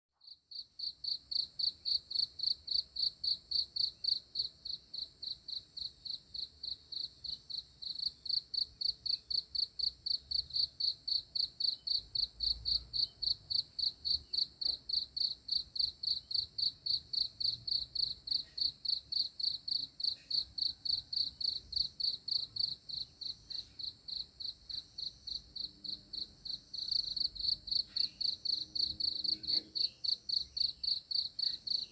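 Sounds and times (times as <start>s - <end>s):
insect chirping: 0.2s - 31.9s.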